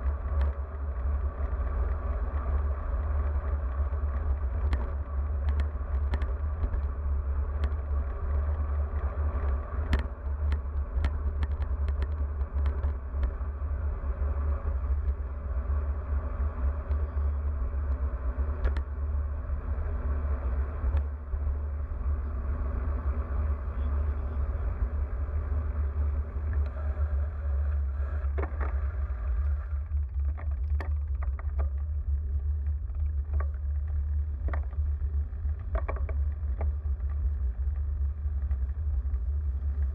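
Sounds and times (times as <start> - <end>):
bicycle tyre and road noise: 0.0 - 39.9
bike rattling over bumps: 0.0 - 39.9
wind rumbling on camera: 0.0 - 39.9.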